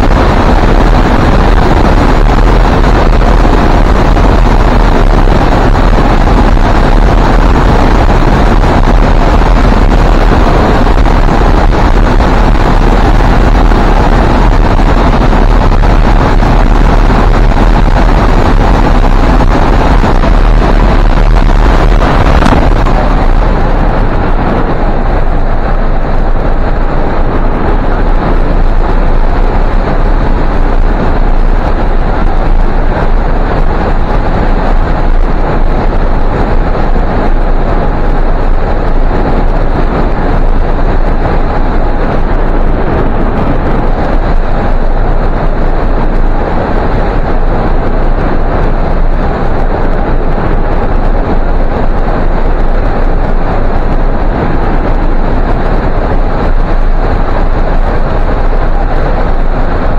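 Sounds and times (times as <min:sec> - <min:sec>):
wind rushing past microphone: 0:00.0 - 0:59.9.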